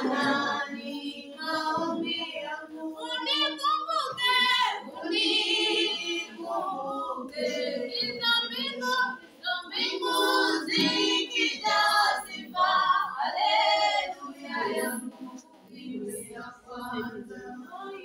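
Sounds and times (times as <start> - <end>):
girls singing unaccompanied: 0.0 - 18.0.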